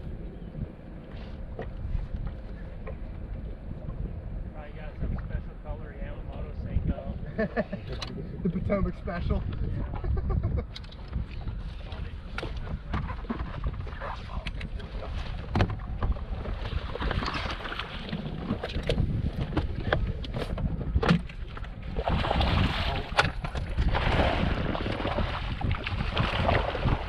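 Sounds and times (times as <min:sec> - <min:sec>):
wind and water rumble: 0:00.0 - 0:27.0.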